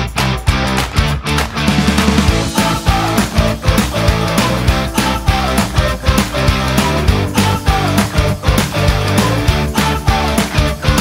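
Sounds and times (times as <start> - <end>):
sustained bass line: 0.0 - 11.0
drum beat: 0.5 - 11.0.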